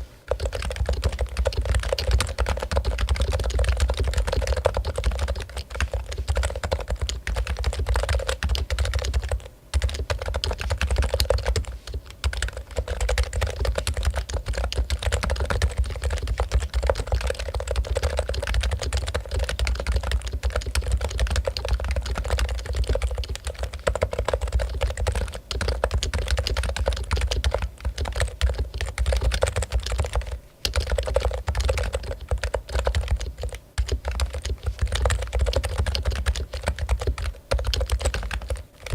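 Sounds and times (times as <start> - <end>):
fast keyboard typing: 0.3 - 38.9.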